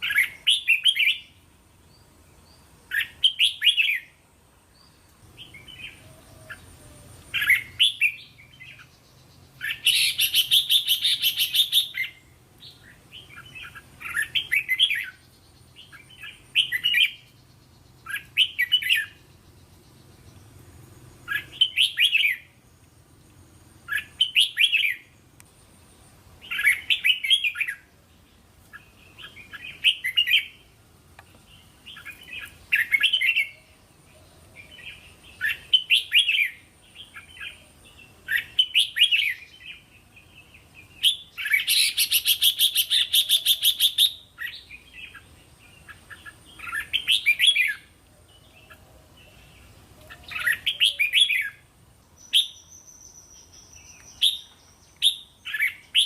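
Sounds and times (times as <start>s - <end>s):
bird singing warbled phrases: 0.0s - 56.0s.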